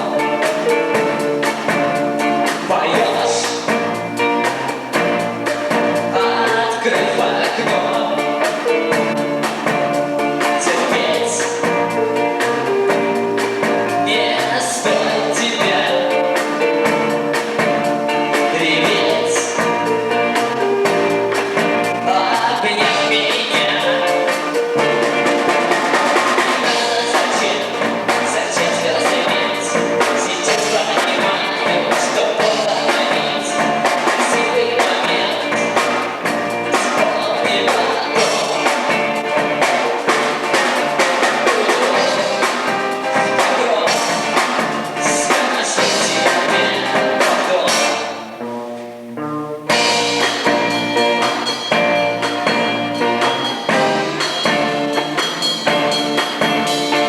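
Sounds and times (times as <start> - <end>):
snare and bass drum beat: 0.0 - 48.1
band playing a song: 0.0 - 57.0.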